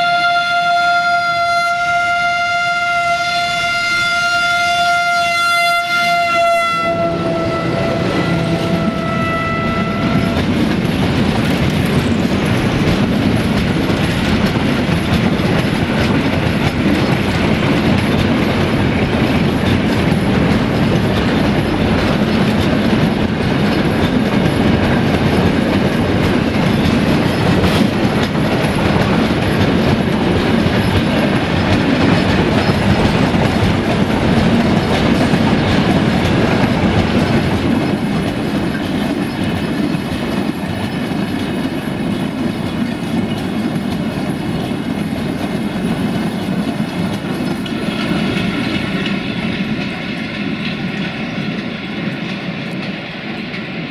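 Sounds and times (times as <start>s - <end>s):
freight train wheels rumbling: 0.0s - 53.9s
wheels clacking over rail joints: 6.8s - 53.9s.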